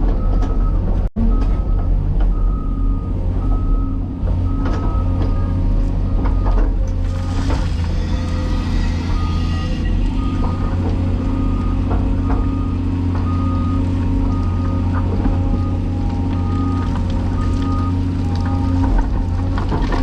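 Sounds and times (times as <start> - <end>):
diesel machinery running: 0.0 - 20.0
backup alarm beeping: 1.3 - 18.8.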